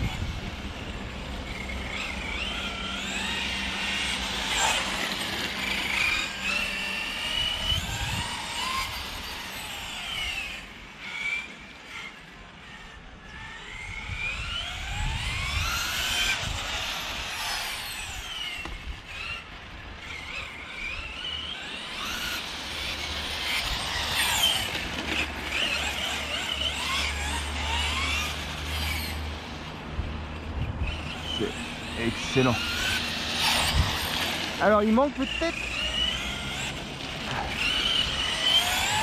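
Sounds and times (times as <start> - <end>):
electric rc car motor whining: 0.0 - 39.0.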